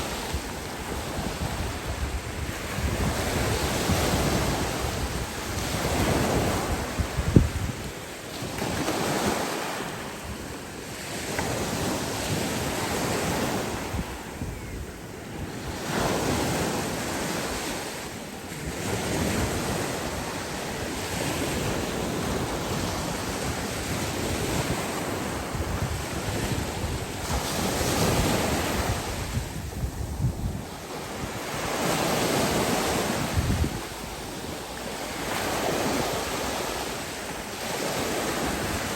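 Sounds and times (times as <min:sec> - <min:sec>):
wind buffeting microphone: 0:00.0 - 0:37.0
waves breaking on beach: 0:00.0 - 0:38.9.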